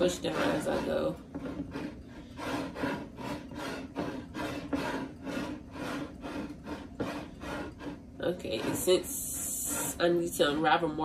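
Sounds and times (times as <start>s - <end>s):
twine rasping against glass: 0.0s - 10.9s.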